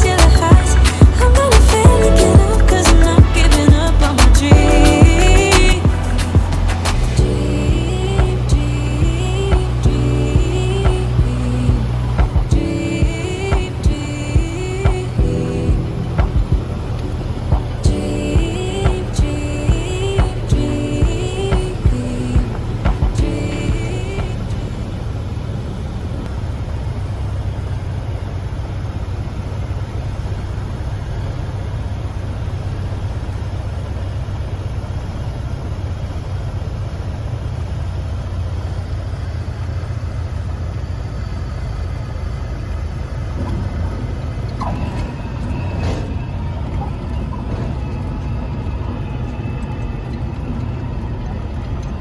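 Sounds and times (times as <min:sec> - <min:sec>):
vehicle engine drone: 0:00.0 - 0:52.0.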